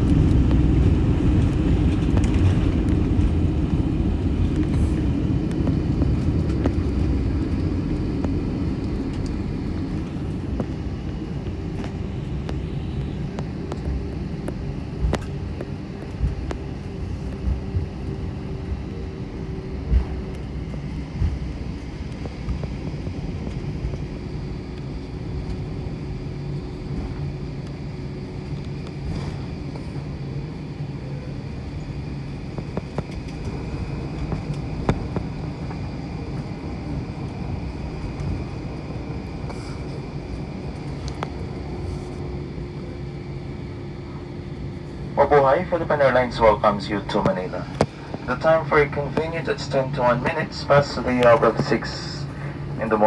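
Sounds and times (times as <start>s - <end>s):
airplane engine hum: 0.0s - 53.0s.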